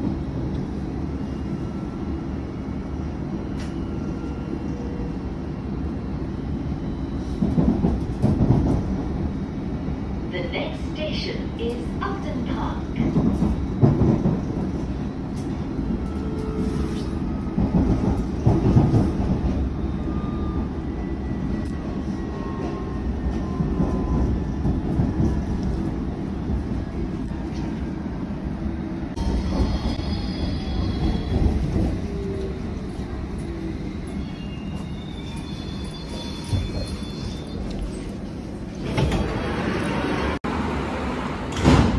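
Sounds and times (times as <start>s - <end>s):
train wheels rumbling on track: 0.0s - 41.9s.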